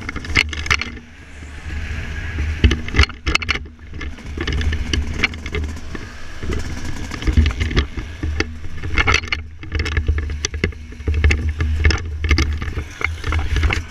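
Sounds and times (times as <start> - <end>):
short crackles and knocks: 0.0 - 1.1, 2.4 - 13.9
motocross bike engine: 0.0 - 13.9
wind buffeting microphone: 0.0 - 13.9.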